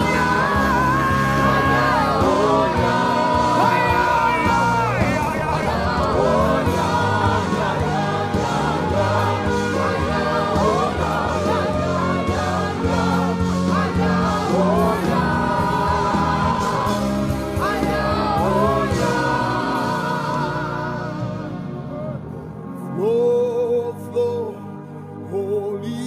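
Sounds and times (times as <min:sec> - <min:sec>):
voices singing gospel: 0:00.0 - 0:22.2
steady bass: 0:00.0 - 0:22.8
instrumental backing: 0:00.0 - 0:25.1.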